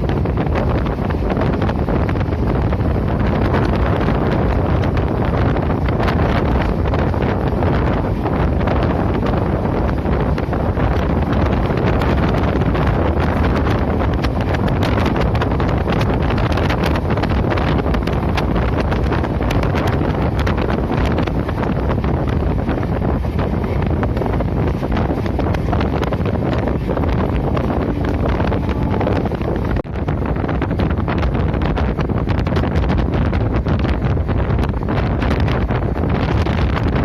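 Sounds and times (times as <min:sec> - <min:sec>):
train running: 0:00.0 - 0:37.0
wind blasting microphone: 0:00.0 - 0:37.0.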